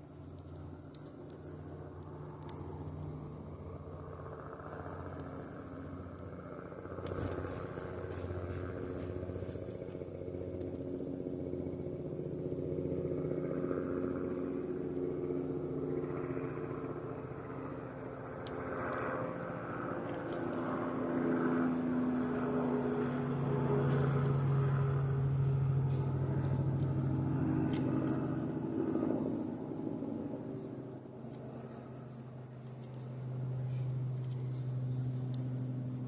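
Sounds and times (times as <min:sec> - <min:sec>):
engine humming: 0:00.0 - 0:36.0.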